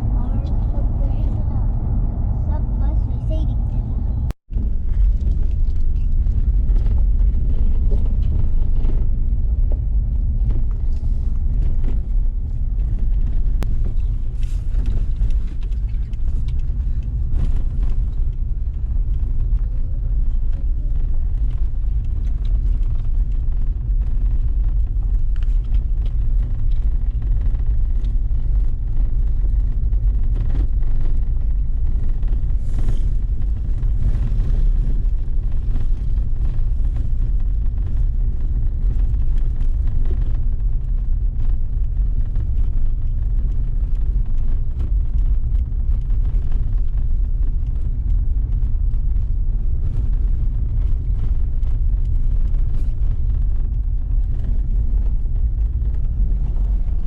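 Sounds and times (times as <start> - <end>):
low rumble: 0.0 - 57.0.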